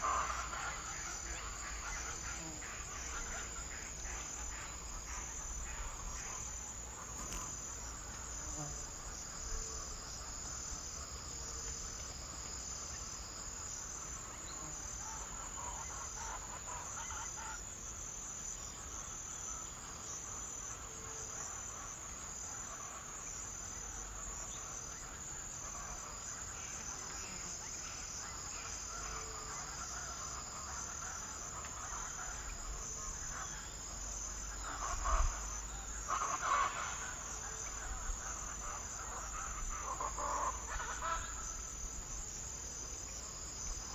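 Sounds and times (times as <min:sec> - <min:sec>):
insects pulsing trill: 0:00.0 - 0:43.9
scattered insect calls: 0:00.0 - 0:43.9.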